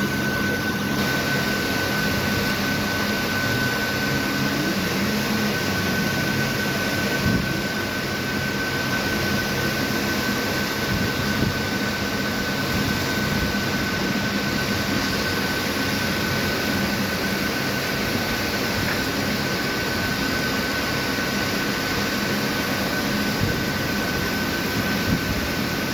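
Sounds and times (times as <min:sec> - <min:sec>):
high machine whine: 0:00.0 - 0:25.9
lathe machining metal: 0:00.0 - 0:25.9.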